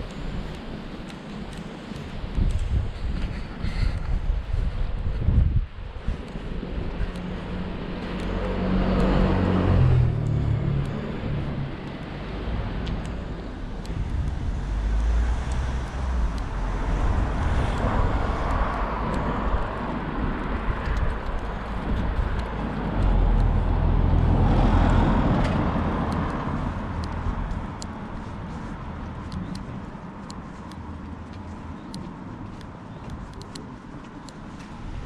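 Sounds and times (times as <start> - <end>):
cars passing by: 0.0 - 35.0.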